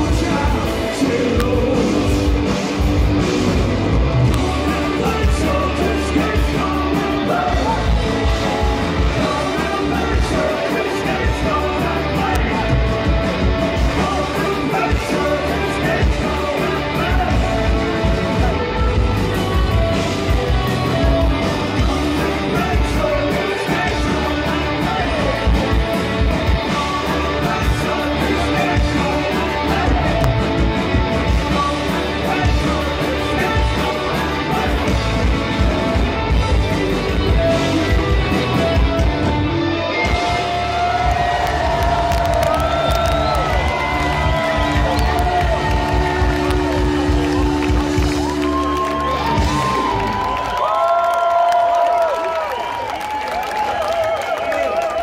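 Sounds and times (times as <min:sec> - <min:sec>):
drums with steady beat: 0:00.0 - 0:50.4
live punk rock band playing: 0:00.0 - 0:52.0
lead vocals: 0:00.0 - 0:55.0.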